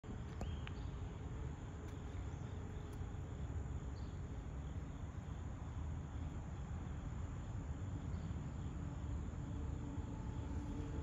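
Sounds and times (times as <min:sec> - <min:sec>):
insects chirring: 0:00.1 - 0:11.0.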